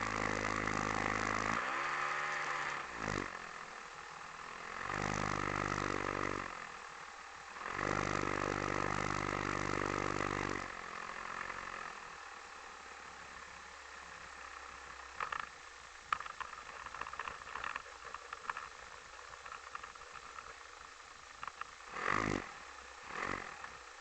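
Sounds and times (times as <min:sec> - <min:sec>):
model plane two-stroke engine: 0:00.0 - 0:12.4, 0:13.0 - 0:24.0.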